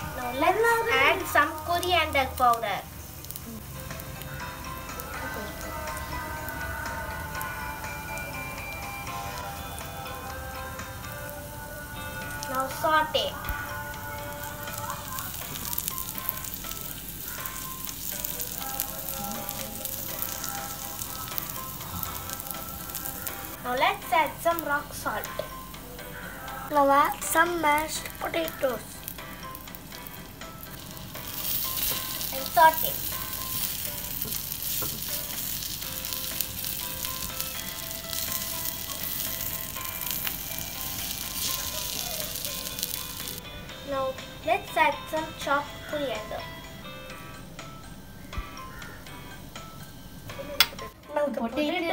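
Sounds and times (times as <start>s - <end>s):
onion and spices sizzling: 0.0s - 47.8s.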